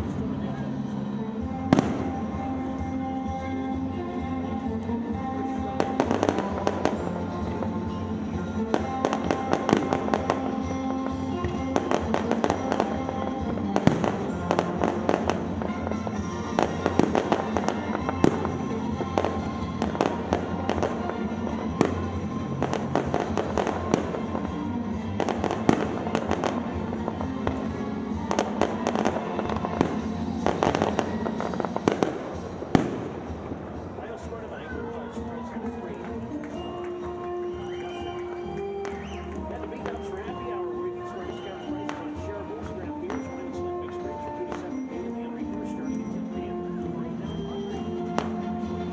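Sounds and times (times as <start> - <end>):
fireworks bangs and crackles: 0.0 - 48.9
music: 0.0 - 48.9.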